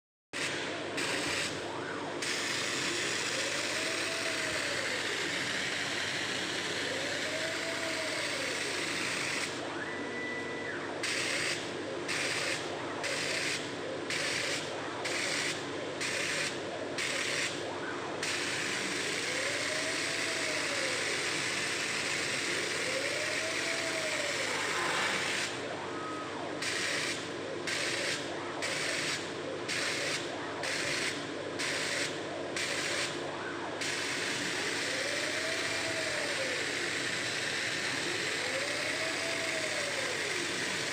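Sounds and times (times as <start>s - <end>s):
cutting machine hiss and hum: 0.4s - 25.8s, 26.4s - 40.9s.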